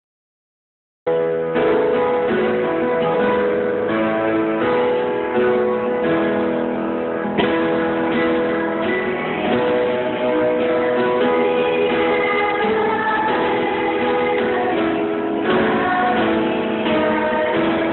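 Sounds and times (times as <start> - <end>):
strummed guitar chords: 1.1 - 17.9.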